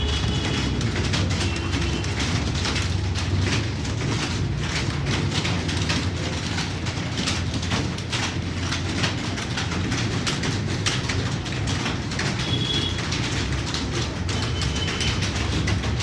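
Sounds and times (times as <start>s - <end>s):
computer keyboards clattering: 0.0s - 16.0s.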